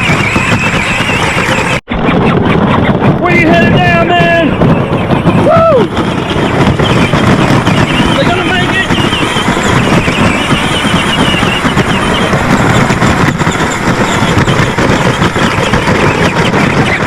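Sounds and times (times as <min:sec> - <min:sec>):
wheels rattling on dirt: 0:00.0 - 0:17.0.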